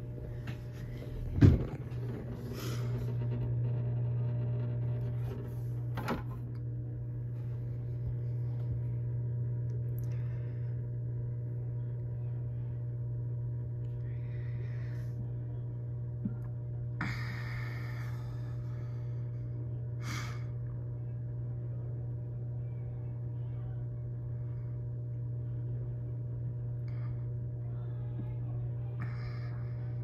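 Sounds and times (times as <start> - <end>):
water pump humming: 0.0 - 30.0.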